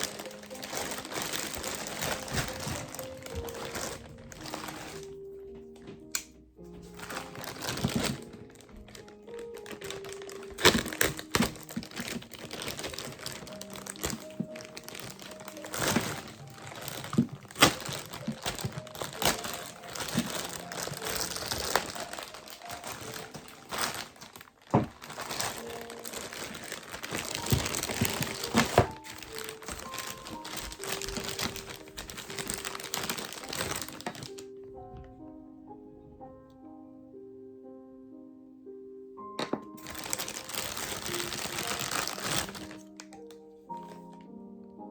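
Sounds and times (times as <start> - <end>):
packaging crinkling and rustling: 0.0 - 35.1, 39.4 - 44.3
soft background music: 0.0 - 44.9.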